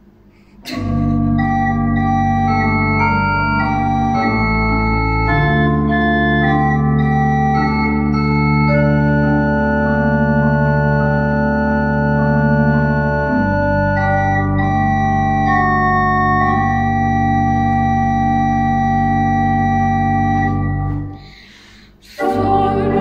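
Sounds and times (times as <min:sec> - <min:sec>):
organ chords: 0:00.0 - 0:23.0
low organ bass line: 0:00.7 - 0:21.6, 0:22.2 - 0:23.0.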